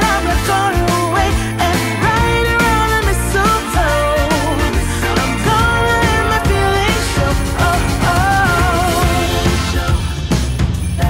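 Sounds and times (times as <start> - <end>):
upbeat christmas song: 0.0 - 11.0
upbeat christmas-style song: 0.0 - 11.0.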